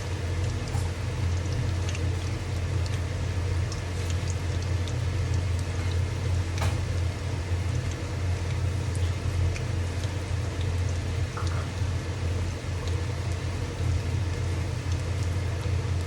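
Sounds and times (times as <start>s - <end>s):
fish deep-frying in hot oil: 0.0s - 16.0s.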